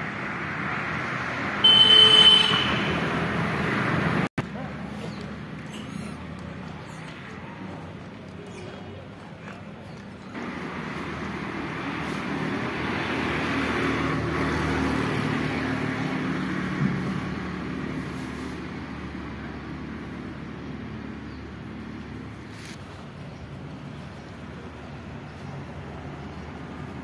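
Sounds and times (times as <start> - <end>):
motor vehicle passing: 0.0 - 27.0.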